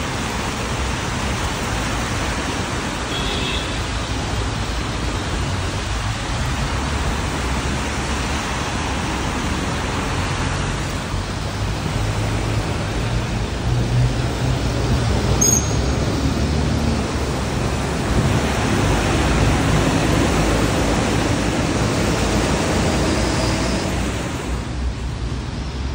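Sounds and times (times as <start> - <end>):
city traffic on wet roads: 0.0 - 25.9
rain falling: 0.0 - 25.9.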